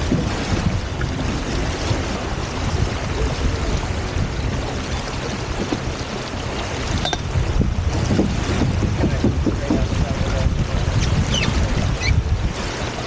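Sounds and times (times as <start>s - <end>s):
water rushing along hulls: 0.0s - 13.0s
wind buffeting microphone: 0.0s - 13.0s.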